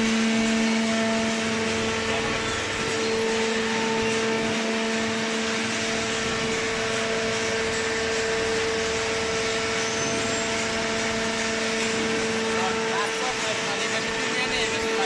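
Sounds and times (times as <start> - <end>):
hydraulic motor and pump hum: 0.0 - 15.0.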